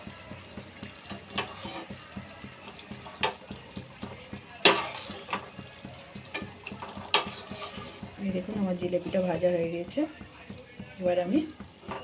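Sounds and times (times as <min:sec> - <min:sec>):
deep-frying sizzle in hot oil: 0:00.0 - 0:12.0.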